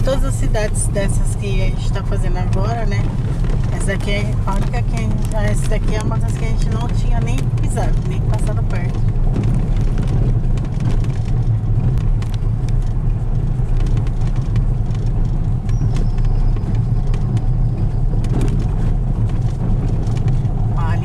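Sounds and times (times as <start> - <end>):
car rumbling over cobblestones: 0.0 - 21.0
light rattles: 0.0 - 21.0.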